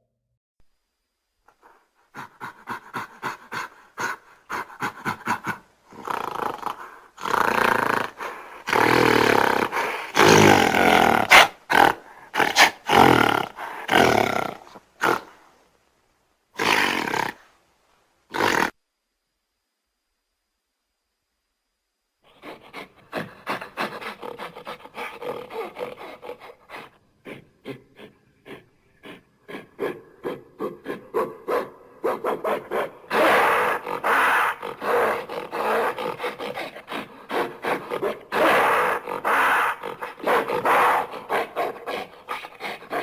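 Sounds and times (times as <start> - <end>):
gorilla panting grunts: 1.5 - 15.4, 22.3 - 43.0
gorilla roaring calls: 2.2 - 15.4, 16.6 - 17.4, 22.3 - 43.0.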